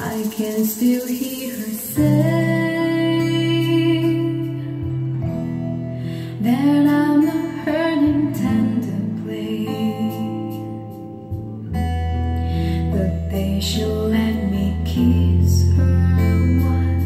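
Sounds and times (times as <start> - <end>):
song with singing voice: 0.0 - 11.5, 12.4 - 17.0.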